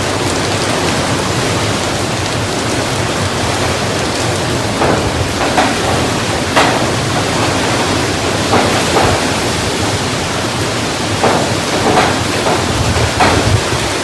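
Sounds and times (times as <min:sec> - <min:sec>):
heavy rain: 0:00.0 - 0:14.0
hurricane wind gusting: 0:00.0 - 0:14.0.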